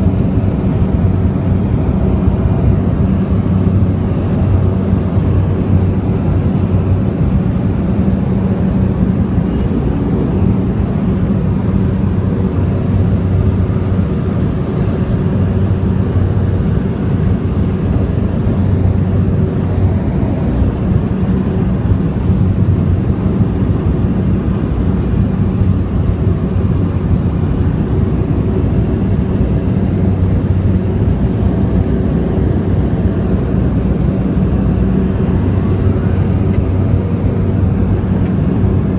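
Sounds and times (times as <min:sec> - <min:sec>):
propeller airplane engine drone: 0:00.0 - 0:38.9.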